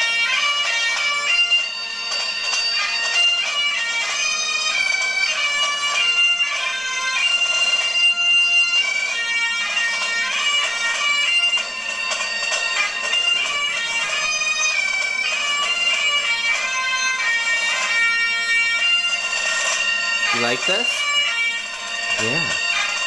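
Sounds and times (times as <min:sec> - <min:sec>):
bagpipe ringtone through phone speaker: 0:00.0 - 0:23.0.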